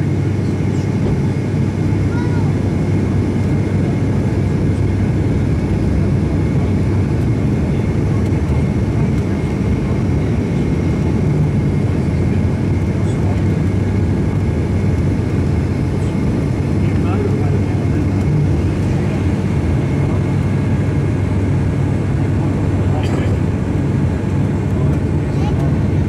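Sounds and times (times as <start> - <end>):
turboprop cabin drone: 0.0 - 26.0.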